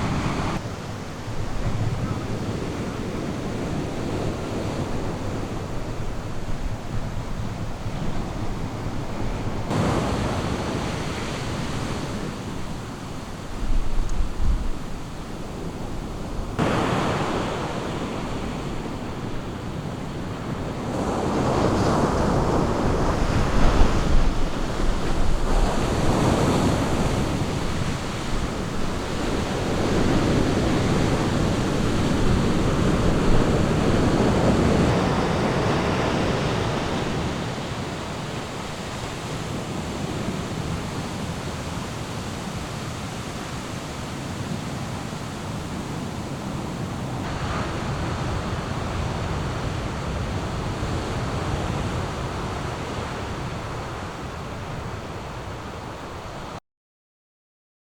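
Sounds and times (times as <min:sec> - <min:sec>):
ocean surf breaking on beach: 0:00.0 - 0:56.6.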